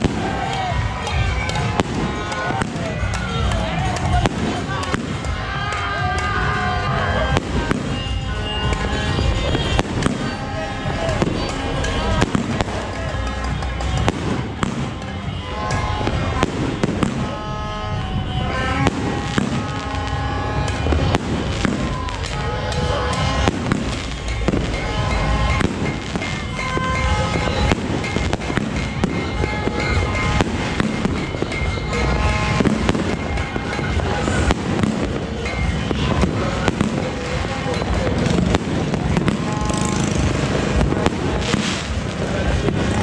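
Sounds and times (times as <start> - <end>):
fireworks bangs and crackle: 0.0 - 43.0
music: 0.0 - 43.0.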